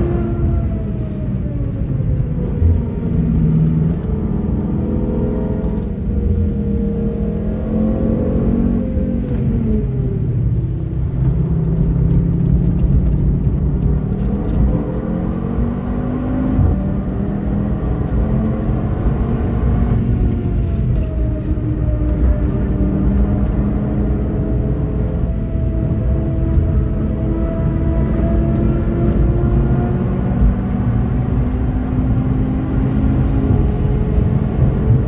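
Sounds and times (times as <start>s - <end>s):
road and tyre rumble: 0.0s - 35.0s
car engine revving: 2.4s - 35.0s.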